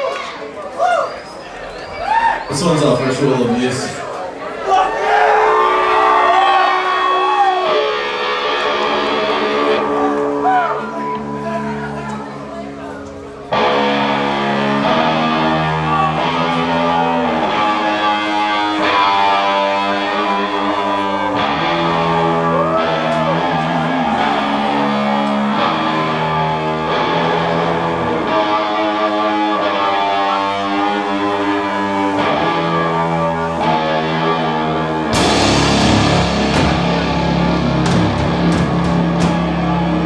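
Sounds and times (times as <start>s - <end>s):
sliding guitar notes: 2.1s - 40.0s
doom metal band playing: 5.0s - 40.0s.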